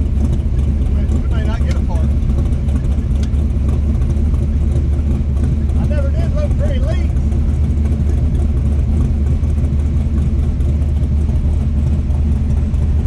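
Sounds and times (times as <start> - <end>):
car engine running with low rumble: 0.0 - 13.0.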